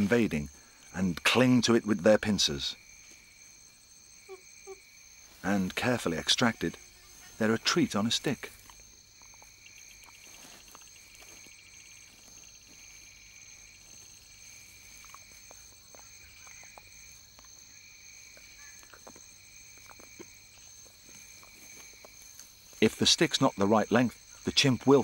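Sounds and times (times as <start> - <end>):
insect chirping: 0.0 - 25.0
insects trilling: 0.0 - 25.0.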